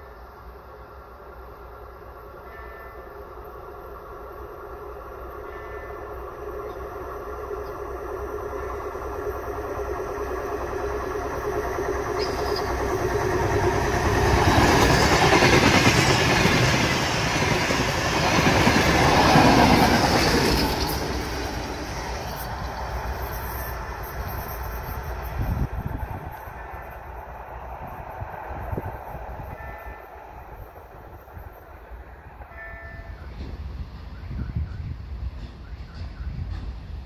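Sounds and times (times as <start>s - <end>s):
diesel train engine drone: 0.0s - 37.0s.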